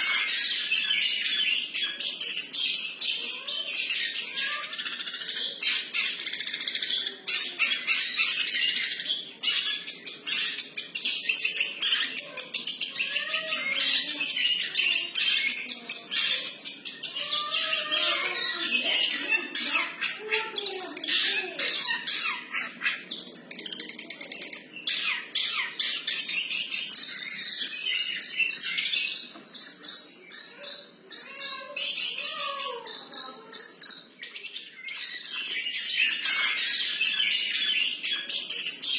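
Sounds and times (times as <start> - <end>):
bird chattering and whistling: 0.0 - 38.9.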